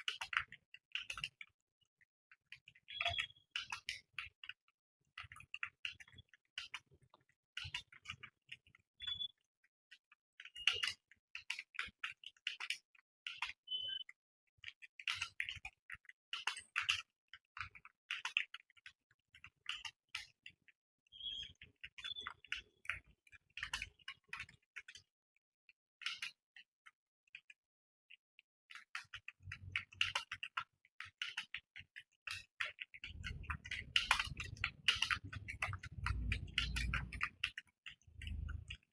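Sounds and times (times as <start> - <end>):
typing on keyboard: 0.0 - 1.5, 2.4 - 4.6, 5.2 - 9.4, 10.4 - 25.1, 28.7 - 38.9.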